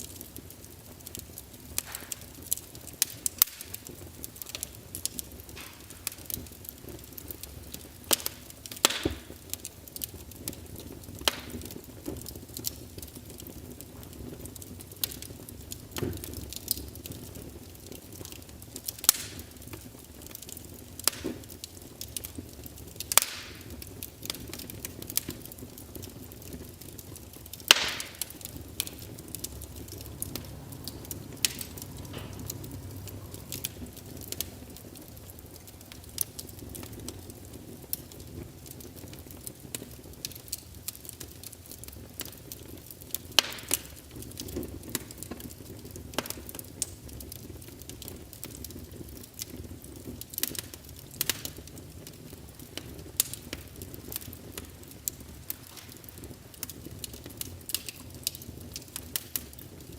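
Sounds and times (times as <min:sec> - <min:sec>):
low rush of burning: 0:00.0 - 0:59.7
sharp pops of fire: 0:00.0 - 0:59.9
wood fire crackling: 0:00.0 - 0:59.9.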